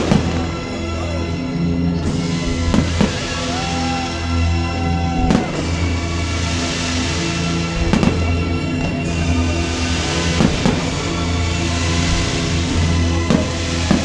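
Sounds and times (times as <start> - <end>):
firework bangs: 0.0 - 14.0
loud music with heavy bass: 1.4 - 14.0.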